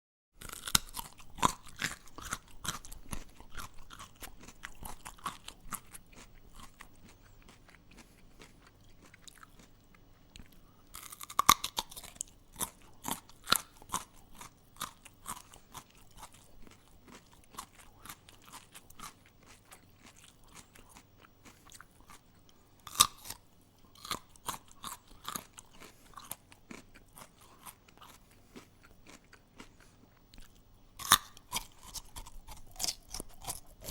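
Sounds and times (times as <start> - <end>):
person chewing something crunchy: 0.4 - 33.9.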